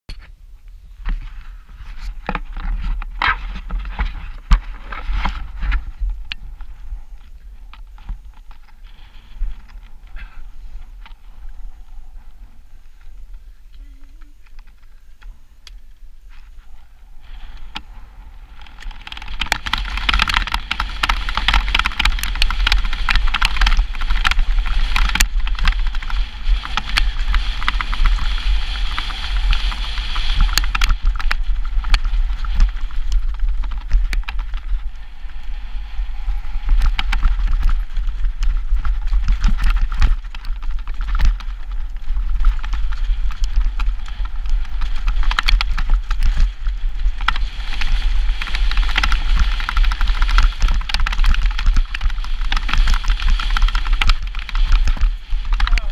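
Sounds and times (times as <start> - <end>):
bike rattling over rough ground: 0.1 - 55.9
bike tyre noise: 0.1 - 55.9
wind rumble on microphone: 0.1 - 55.9.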